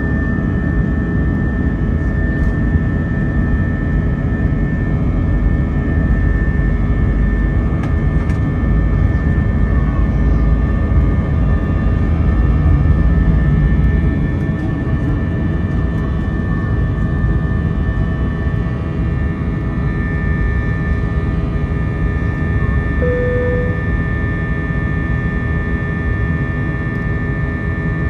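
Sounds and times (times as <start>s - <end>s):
high engine whine: 0.0s - 28.0s
jet engine cabin rumble: 0.0s - 28.0s.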